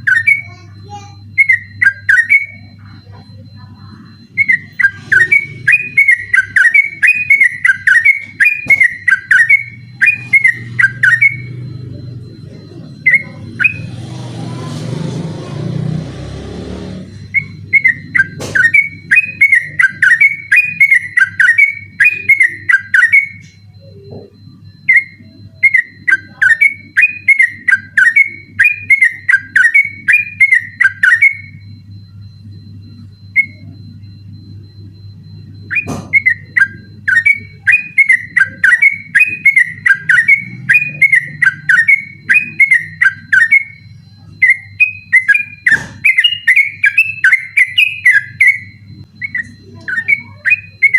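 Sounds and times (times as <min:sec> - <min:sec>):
bird warbling fluty notes: 0:00.0 - 0:32.2, 0:32.9 - 0:50.9
faint low hum: 0:00.0 - 0:50.9.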